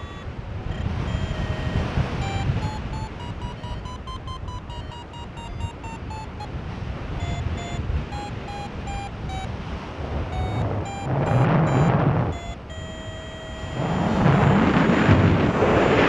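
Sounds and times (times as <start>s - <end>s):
wind on microphone: 0.0s - 4.6s, 5.4s - 16.0s
variometer beeping: 0.0s - 9.6s, 10.2s - 14.8s.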